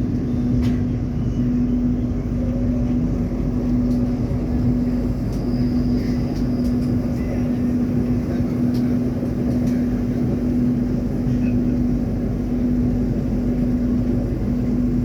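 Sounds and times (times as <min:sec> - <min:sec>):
constant hum: 0:00.0 - 0:15.0
train rumbling at speed: 0:00.0 - 0:15.0.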